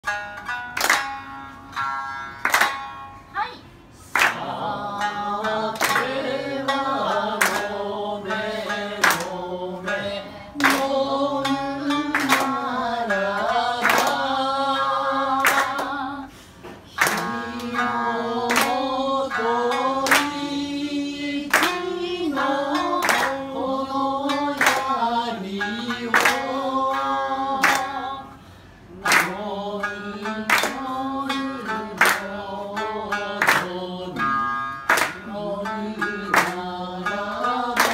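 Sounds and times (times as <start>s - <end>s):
plucked shamisen strings: 0.0s - 37.9s.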